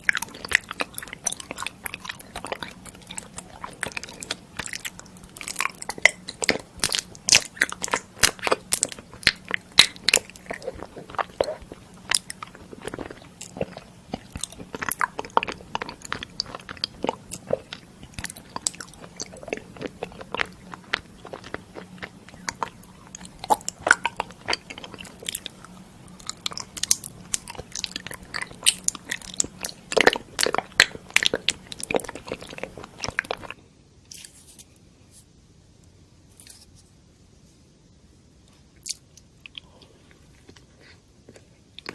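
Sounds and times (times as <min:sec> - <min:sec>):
person chewing crunchy food: 0:00.0 - 0:34.3, 0:38.8 - 0:41.9.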